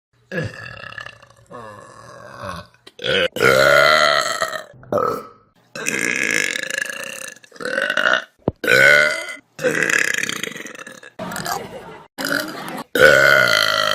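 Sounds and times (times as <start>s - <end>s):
person burping loudly: 0.3s - 11.5s, 12.2s - 13.9s.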